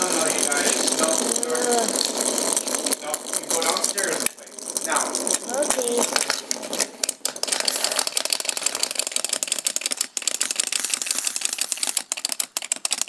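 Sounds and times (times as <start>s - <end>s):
wind-up toy clicking rattle: 0.0s - 13.0s.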